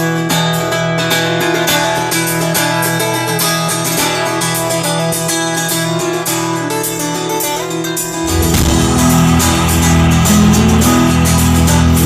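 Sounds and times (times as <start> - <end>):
folk-rock band playing live: 0.0 - 12.0
strummed guitar: 0.0 - 12.0.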